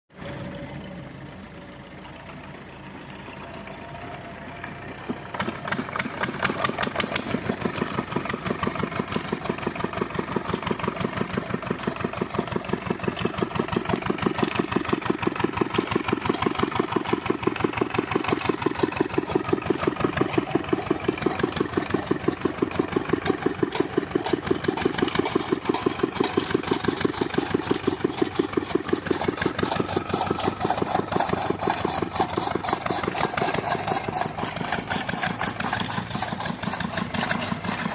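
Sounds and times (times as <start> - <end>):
chaff cutter engine running: 0.1 - 37.9.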